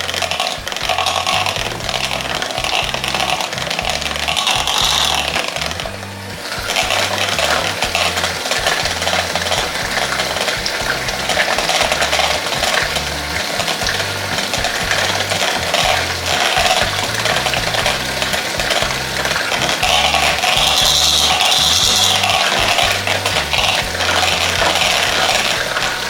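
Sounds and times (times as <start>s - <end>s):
background music with bass: 0.0s - 26.0s
utensil stirring batter in bowl: 0.0s - 26.0s.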